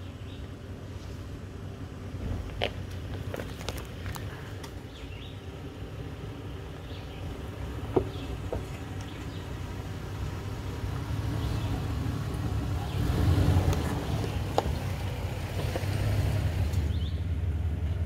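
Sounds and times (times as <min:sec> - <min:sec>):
engine running at low speed: 0:00.0 - 0:18.0.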